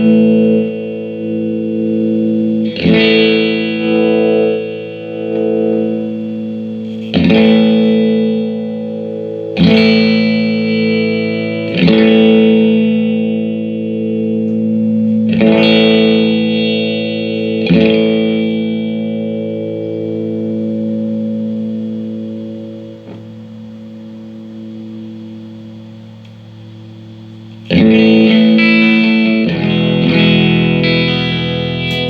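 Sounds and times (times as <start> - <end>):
electric guitar chords ringing: 0.0 - 32.0.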